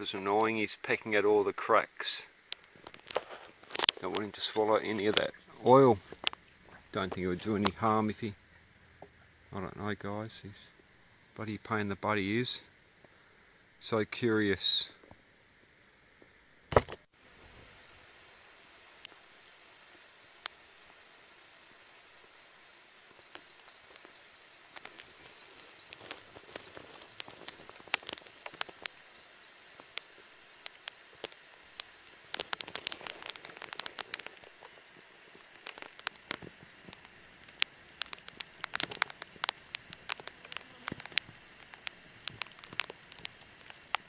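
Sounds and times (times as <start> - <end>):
light ticks and crackles: 0.0 - 13.2, 19.8 - 21.0, 22.0 - 44.0.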